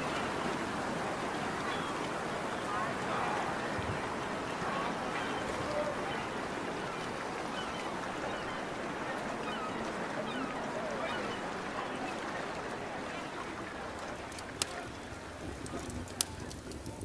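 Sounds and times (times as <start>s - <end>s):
dense background hubbub: 0.0s - 17.0s.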